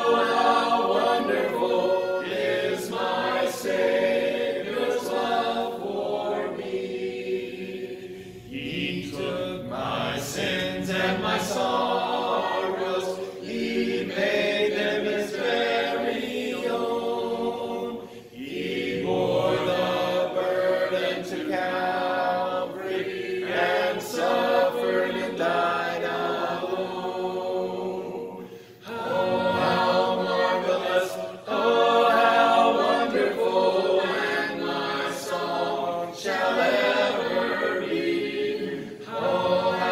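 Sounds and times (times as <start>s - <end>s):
group singing a hymn a cappella: 0.0s - 39.9s.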